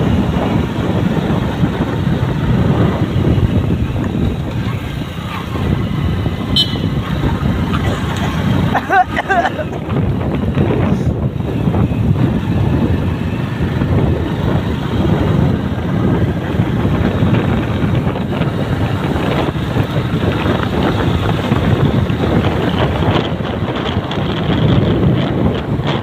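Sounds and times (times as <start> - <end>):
motorbike engine running: 0.0 - 26.0
wind buffeting microphone: 0.0 - 26.0.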